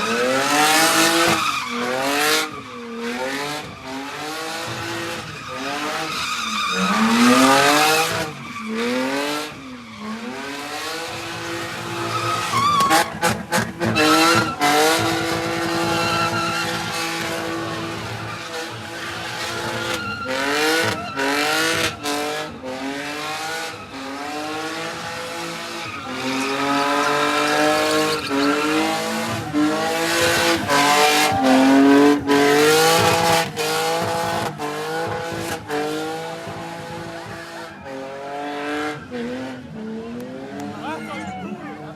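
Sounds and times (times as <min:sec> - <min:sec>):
car engine revving: 0:00.0 - 0:41.0
tires screeching on pavement: 0:00.0 - 0:41.9.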